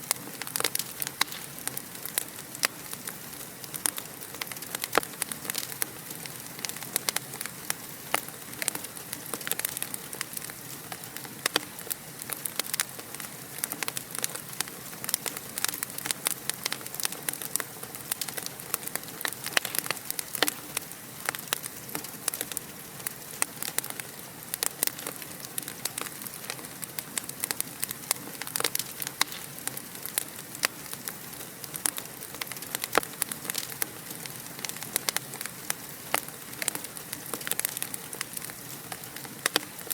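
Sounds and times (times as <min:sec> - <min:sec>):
fire crackling: 0:00.0 - 0:39.9
soft fire hiss: 0:00.0 - 0:39.9.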